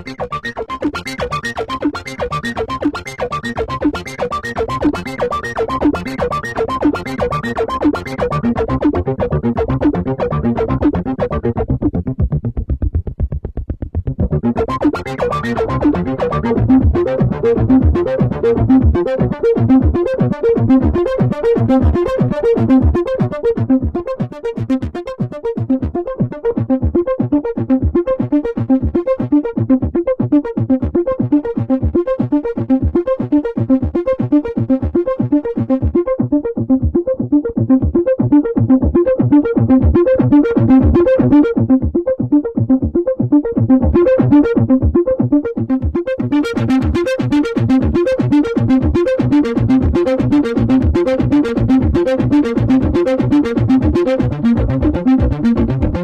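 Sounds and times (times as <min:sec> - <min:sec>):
synthesizer note sequence: 0:00.0 - 0:56.0.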